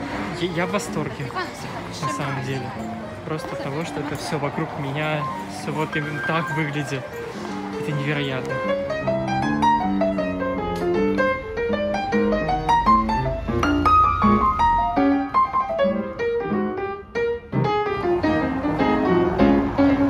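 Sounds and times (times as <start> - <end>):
quick piano music: 0.0 - 20.0.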